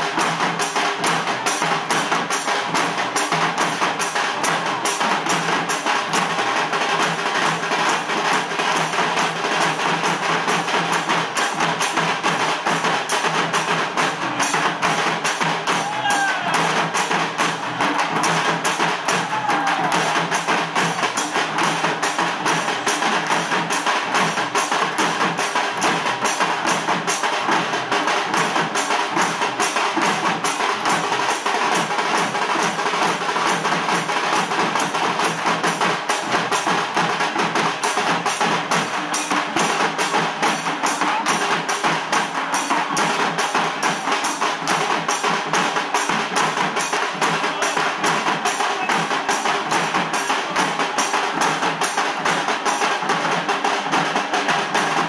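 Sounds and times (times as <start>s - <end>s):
drums in fast rhythm: 0.0s - 55.0s.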